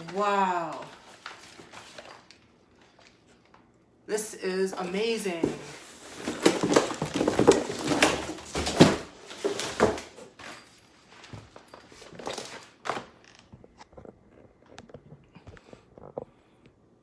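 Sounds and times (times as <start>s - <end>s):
packaging crinkling and rustling: 0.0s - 3.6s, 4.9s - 15.1s.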